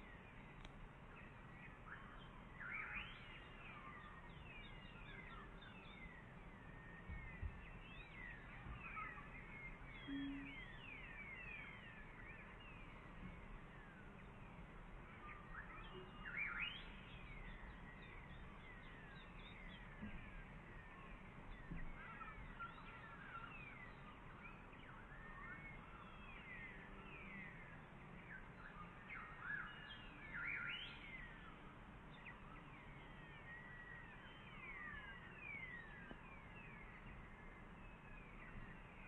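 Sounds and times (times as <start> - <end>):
small birds chirping and twittering: 0.0 - 39.0.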